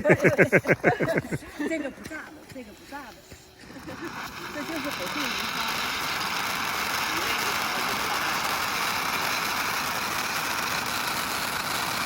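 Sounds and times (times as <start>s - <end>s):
firework fountain crackling hiss: 0.0s - 12.0s.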